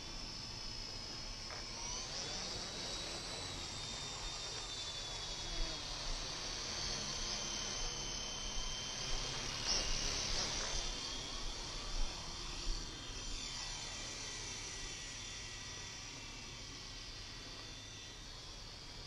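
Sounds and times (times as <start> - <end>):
toy helicopter motors buzzing: 0.0 - 19.0.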